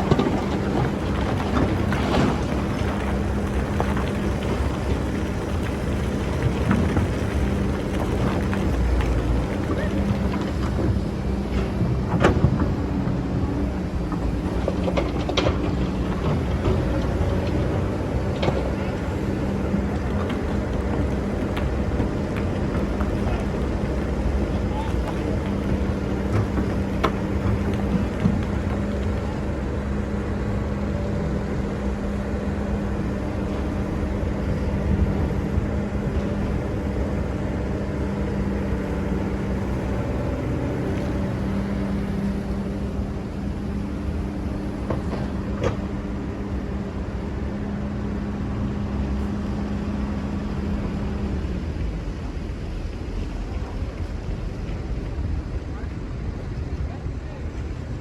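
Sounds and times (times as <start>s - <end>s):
excavator engine running: 0.0s - 58.0s.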